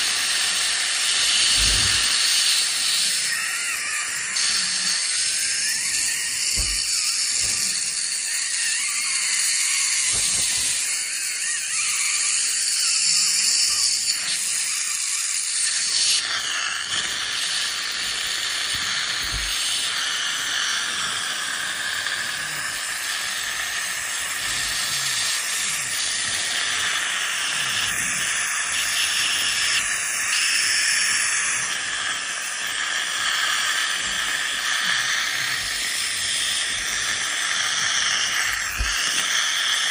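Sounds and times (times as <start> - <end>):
dental scaler high hiss: 0.0 - 39.9.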